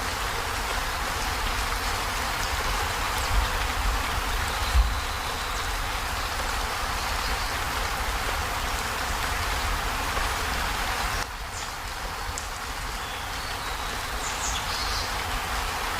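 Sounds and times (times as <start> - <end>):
heavy rain on a metal roof: 0.0 - 15.9.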